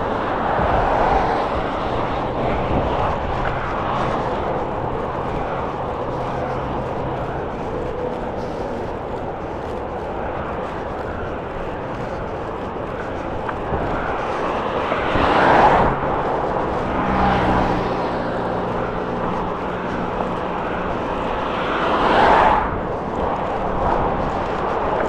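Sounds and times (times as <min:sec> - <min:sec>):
low engine hum: 0:00.0 - 0:25.0
vehicles passing: 0:00.0 - 0:25.0
wind on microphone: 0:00.0 - 0:25.0.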